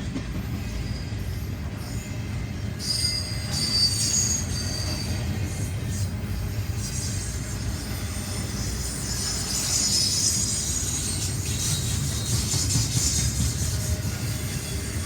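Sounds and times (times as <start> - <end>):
train wheels rumbling on rails: 0.0 - 15.0
wheels hissing and squealing: 2.8 - 15.0.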